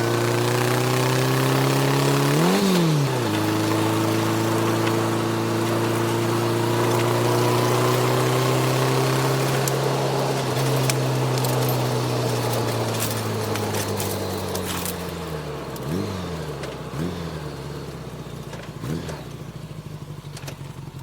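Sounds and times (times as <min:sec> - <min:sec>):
engine running and revving: 0:00.0 - 0:21.0.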